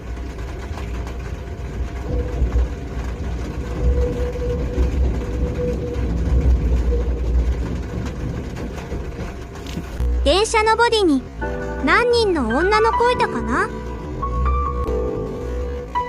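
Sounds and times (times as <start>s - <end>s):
electric train rumbling: 0.0s - 16.0s
faint whine: 0.0s - 16.0s.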